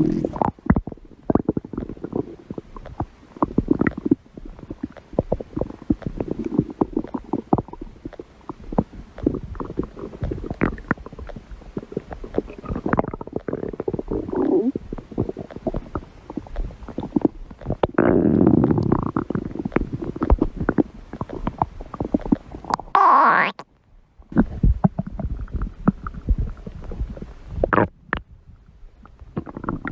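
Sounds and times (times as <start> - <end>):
stomach growling and gurgling: 0.0 - 29.9.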